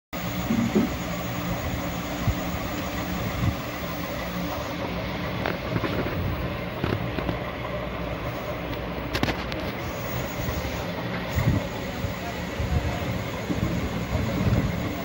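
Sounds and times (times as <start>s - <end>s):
low mechanical hum: 0.2s - 15.0s.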